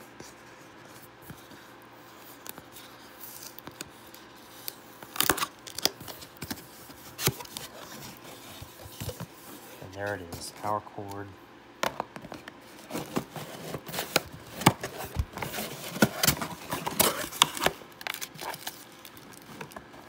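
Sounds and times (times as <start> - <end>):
tape being peeled: 0.8 - 9.6, 12.7 - 20.0
packaging rustling and tearing: 1.0 - 10.8, 12.6 - 20.0.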